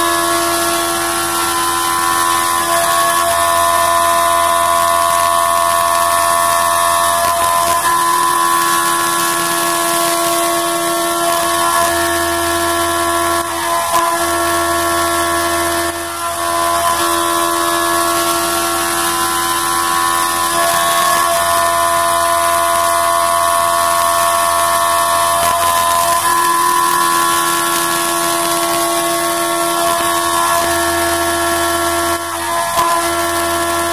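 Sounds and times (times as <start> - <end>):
milling machine whine: 0.0 - 33.9.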